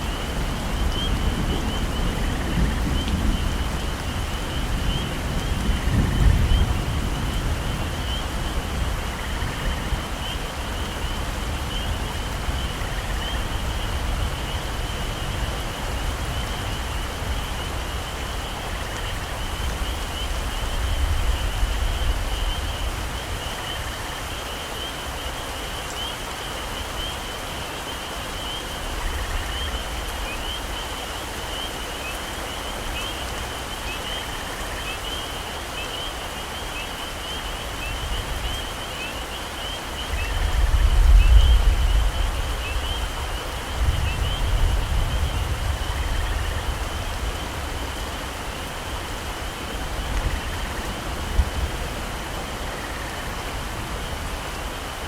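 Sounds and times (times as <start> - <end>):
heavy rain in forest: 0.0 - 55.0.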